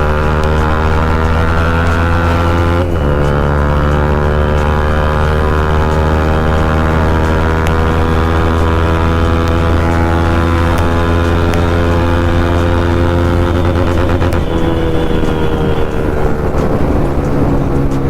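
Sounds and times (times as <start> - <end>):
motorcycle exhaust note: 0.0 - 18.0.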